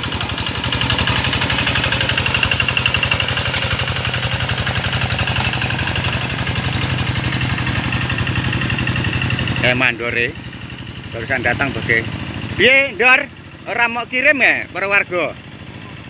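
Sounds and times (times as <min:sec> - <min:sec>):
diesel tractor engine chugging: 0:00.0 - 0:16.0.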